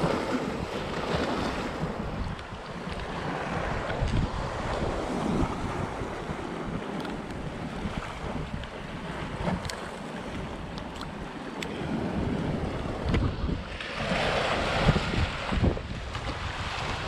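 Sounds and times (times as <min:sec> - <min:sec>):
waves breaking on shore: 0:00.0 - 0:17.0
wind buffeting microphone: 0:00.0 - 0:17.0.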